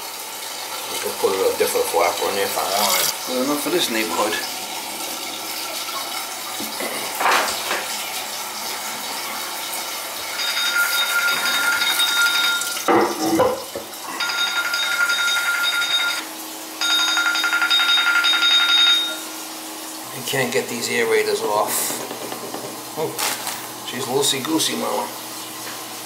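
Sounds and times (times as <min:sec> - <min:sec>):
water hissing through plumbing: 0:00.0 - 0:17.5, 0:19.1 - 0:26.0.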